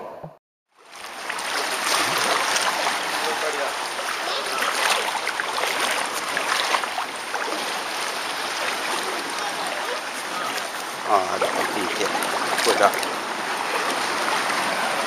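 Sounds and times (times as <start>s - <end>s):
water sloshing and lapping: 0.7s - 15.0s.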